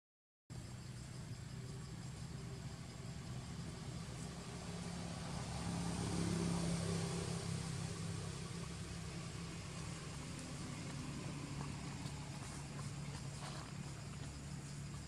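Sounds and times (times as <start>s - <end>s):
motor engine low hum: 0.6s - 15.0s.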